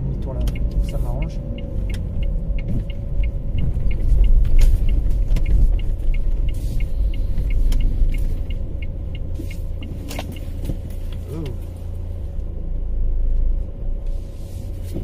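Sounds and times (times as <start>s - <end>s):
car engine and road rumble: 0.0s - 15.0s
turn signal ticking: 0.0s - 15.0s.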